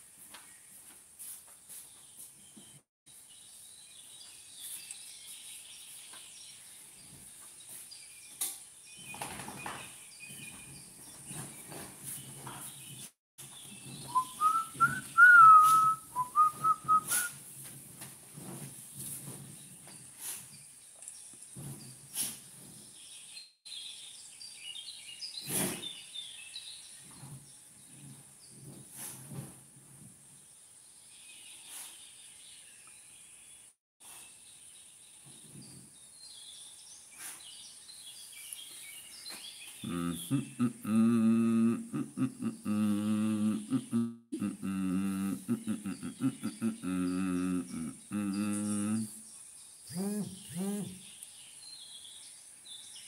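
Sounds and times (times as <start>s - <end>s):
small birds chirping: 0.4s - 17.3s, 18.8s - 29.2s, 30.5s - 53.0s.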